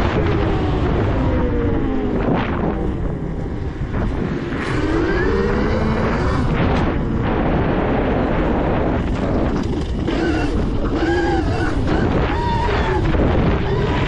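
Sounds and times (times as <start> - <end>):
heavy low rumble: 0.0 - 14.0.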